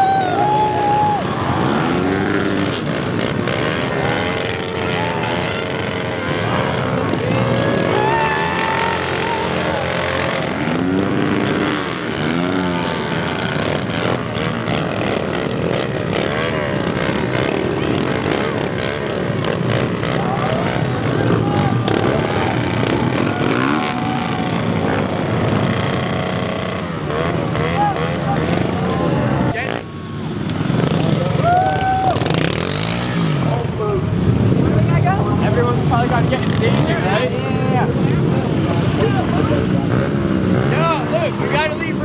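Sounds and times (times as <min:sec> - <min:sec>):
pit bike engines revving: 0:00.0 - 0:42.0.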